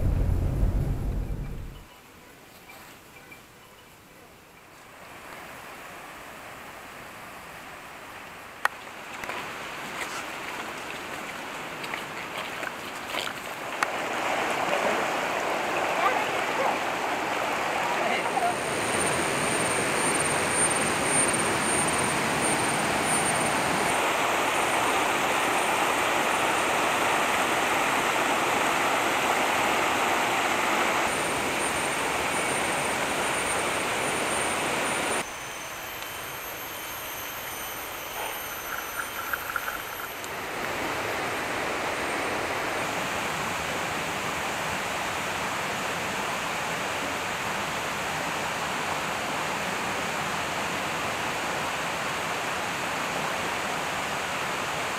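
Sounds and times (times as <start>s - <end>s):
river rushing over boulders: 5.0s - 37.3s, 37.9s - 54.9s.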